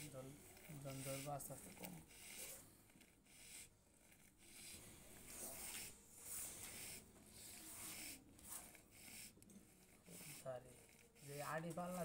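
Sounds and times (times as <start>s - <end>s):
calf rapid laboured breathing: 0.0s - 12.0s.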